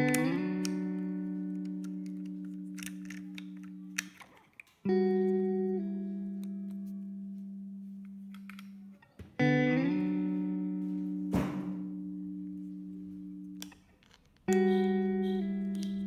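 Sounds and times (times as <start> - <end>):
plucked guitar chords: 0.0 - 4.1, 4.8 - 13.8, 14.5 - 16.0.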